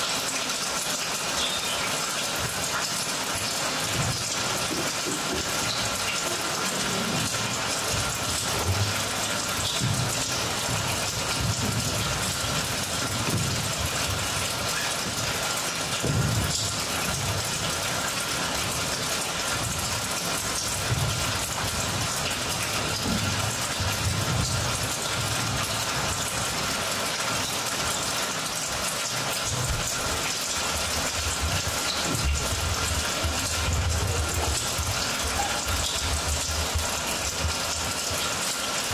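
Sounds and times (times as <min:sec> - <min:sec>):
rushing water-like noise: 0:00.0 - 0:38.9.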